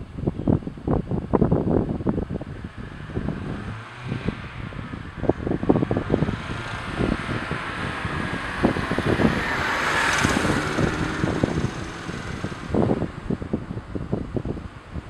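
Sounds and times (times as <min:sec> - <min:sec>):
car engine driving: 0:00.9 - 0:15.0.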